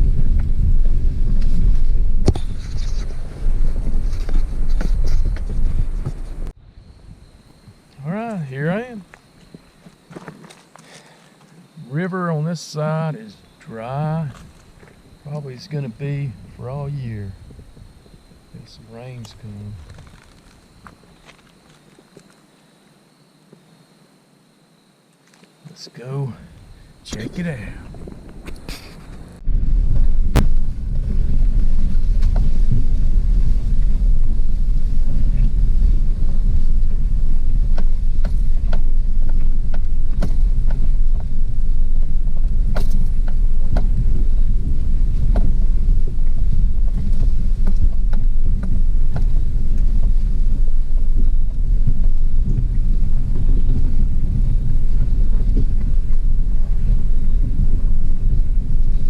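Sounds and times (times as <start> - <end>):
wind buffeting microphone: 0.0 - 10.1, 13.2 - 21.7, 26.3 - 59.0.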